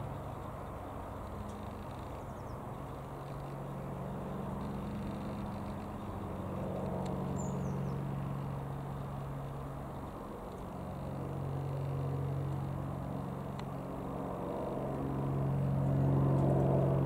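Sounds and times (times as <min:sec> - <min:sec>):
propeller plane droning overhead: 0:00.0 - 0:17.0.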